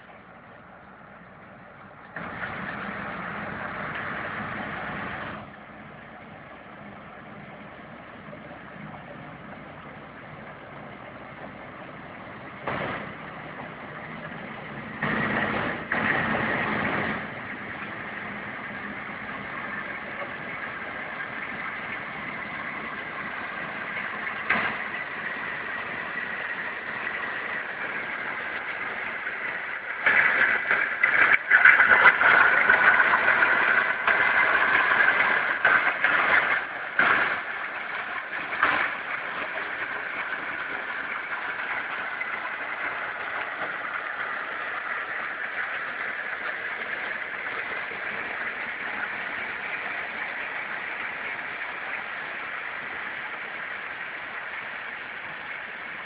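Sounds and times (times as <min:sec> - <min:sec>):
train engine running: 0:00.0 - 0:56.0.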